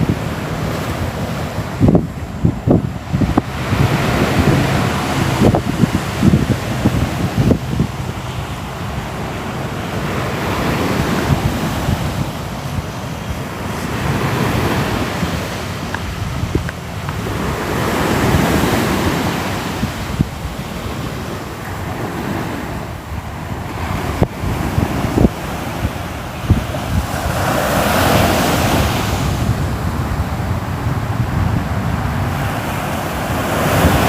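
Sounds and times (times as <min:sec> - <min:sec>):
ocean waves breaking on shore: 0:00.0 - 0:34.0
wind rumble: 0:00.0 - 0:34.0.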